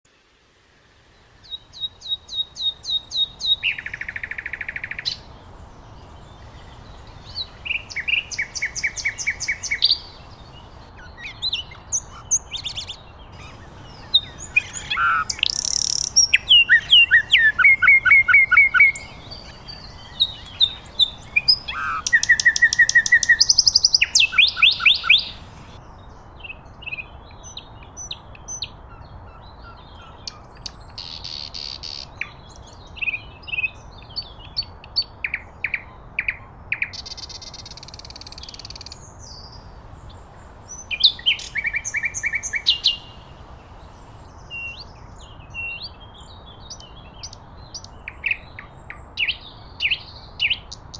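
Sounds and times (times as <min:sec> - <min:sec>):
nightingale singing: 0:01.4 - 0:05.4, 0:06.0 - 0:50.9.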